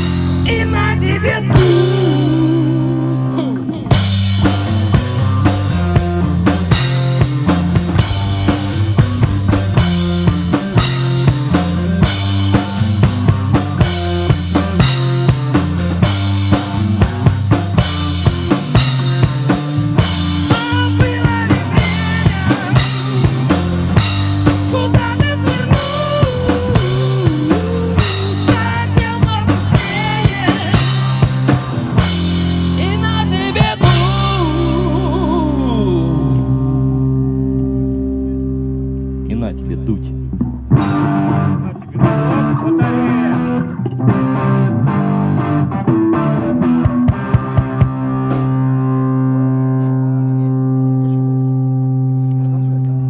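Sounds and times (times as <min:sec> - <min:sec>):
drum kit beat: 0:00.0 - 0:02.9, 0:03.9 - 0:36.0, 0:40.4 - 0:49.1
bass line: 0:00.0 - 0:53.0
lead guitar melody with bending notes: 0:00.0 - 0:53.0.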